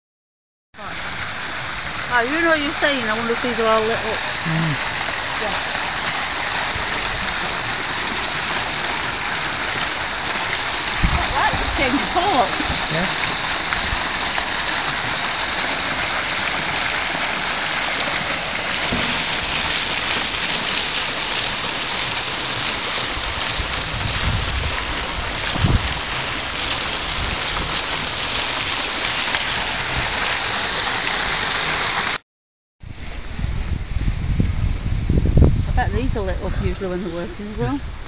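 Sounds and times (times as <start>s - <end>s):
fountain water splashing: 0.8s - 32.2s, 35.8s - 38.0s.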